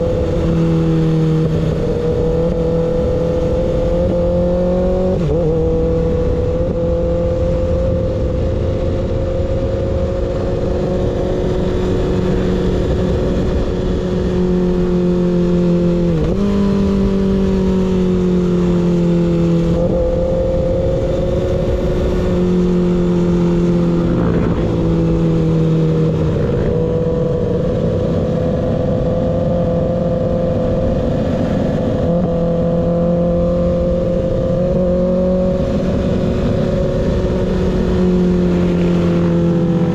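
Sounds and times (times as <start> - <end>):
motorcycle engine riding steadily: 0.0 - 39.9.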